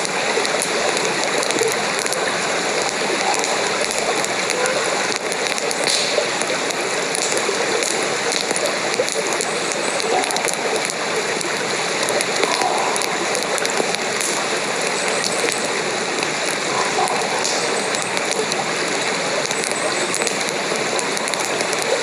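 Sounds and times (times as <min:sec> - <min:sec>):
rain falling: 0:00.0 - 0:22.0
small sharp ticks: 0:00.0 - 0:22.0.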